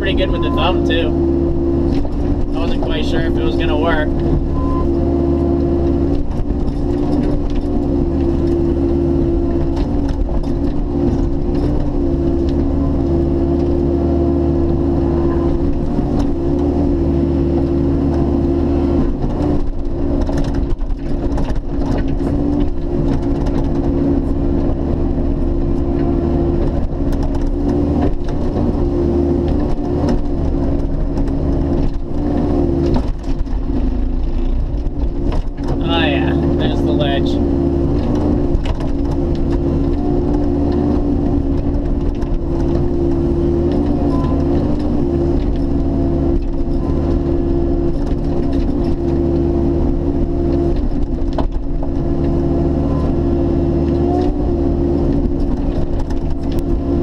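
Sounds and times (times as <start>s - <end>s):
excavator diesel engine and hydraulics: 0.0s - 57.0s.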